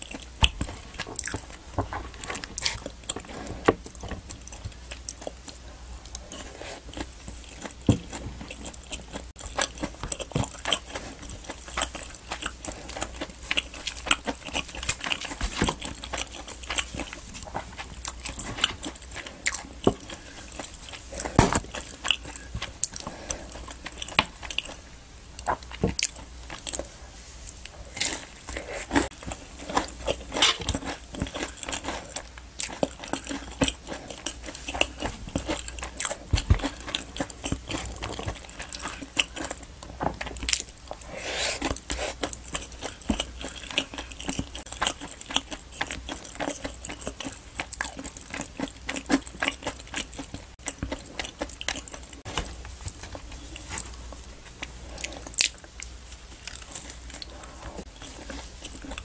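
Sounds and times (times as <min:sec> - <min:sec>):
chewing crisp pastry: 0:00.0 - 0:59.0.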